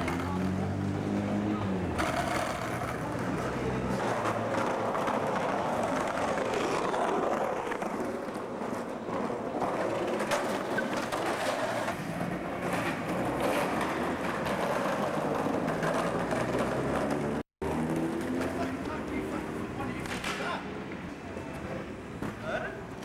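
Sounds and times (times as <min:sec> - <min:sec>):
skateboard wheels rolling: 0:00.0 - 0:23.0.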